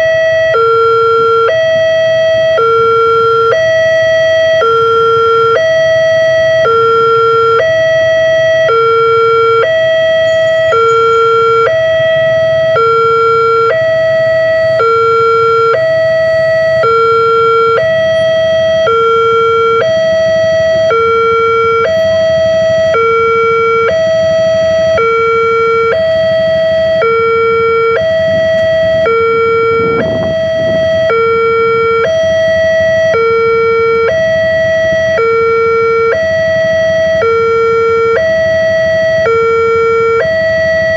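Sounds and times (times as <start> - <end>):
level-crossing two-tone alarm: 0.0 - 40.9
traffic rumbling: 0.0 - 40.9.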